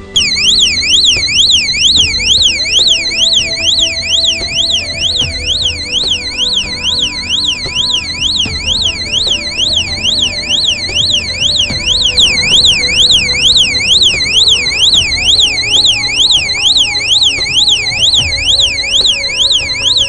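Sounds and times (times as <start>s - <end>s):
background music: 0.0s - 20.0s
shrill alarm siren: 0.0s - 20.0s.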